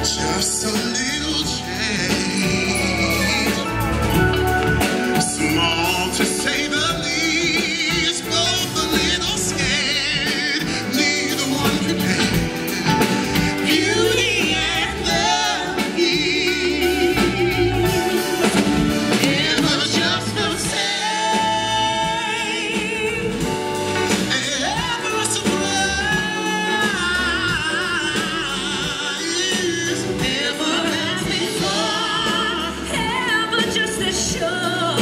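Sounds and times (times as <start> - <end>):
band accompaniment: 0.0 - 35.0
man singing with vibrato: 0.0 - 35.0
piano: 0.0 - 35.0.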